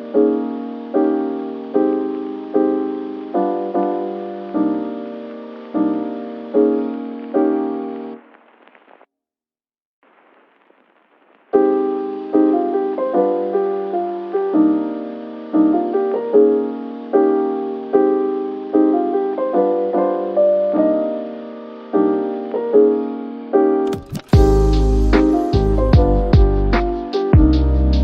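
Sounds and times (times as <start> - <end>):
piano music: 0.0 - 8.4, 11.5 - 28.0
faint hiss: 0.0 - 9.1, 10.0 - 27.3.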